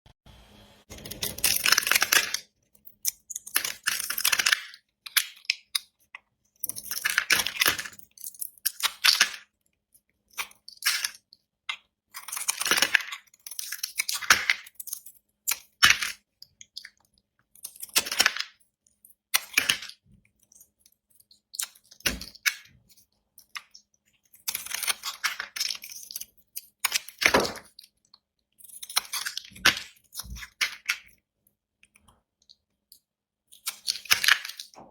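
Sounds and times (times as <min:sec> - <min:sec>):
knife cutting dry soap: 0:00.9 - 0:34.9.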